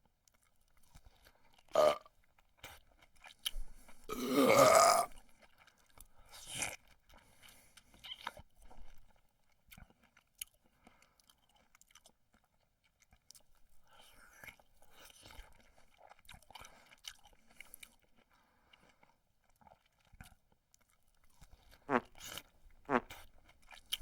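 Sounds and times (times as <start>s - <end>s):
comic chewing and crunching: 0.0s - 24.0s.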